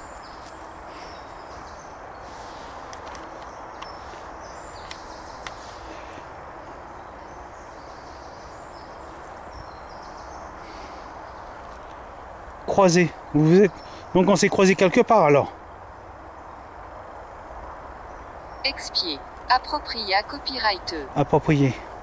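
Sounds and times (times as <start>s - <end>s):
woodland ambience hiss: 0.0s - 22.0s.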